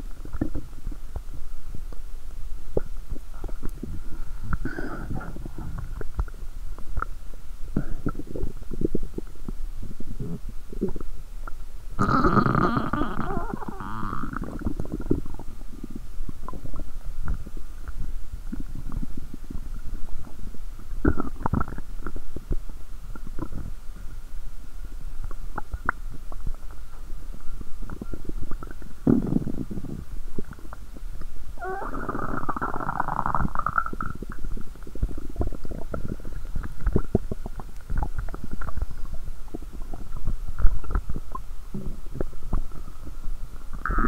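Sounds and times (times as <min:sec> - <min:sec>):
stomach gurgling and popping: 0:00.0 - 0:24.2, 0:25.1 - 0:44.0.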